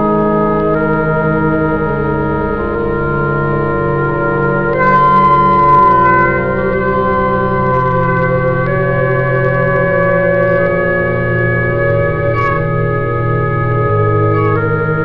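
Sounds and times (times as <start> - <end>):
slow organ chords: 0.0 - 15.0.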